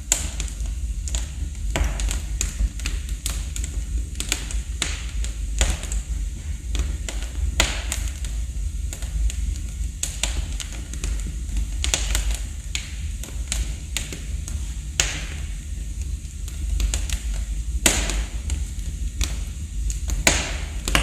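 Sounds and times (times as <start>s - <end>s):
fire low rumble: 0.0s - 21.0s
logs crackling and popping: 0.0s - 21.0s
loud fire snaps: 0.0s - 21.0s.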